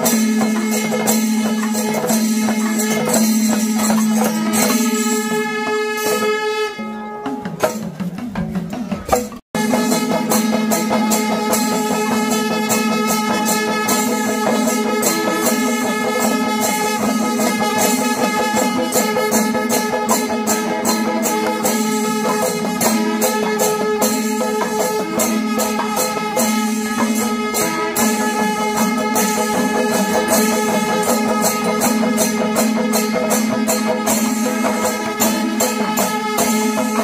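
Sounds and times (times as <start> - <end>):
jingling rattling percussion: 0.0 - 6.6, 7.2 - 37.0.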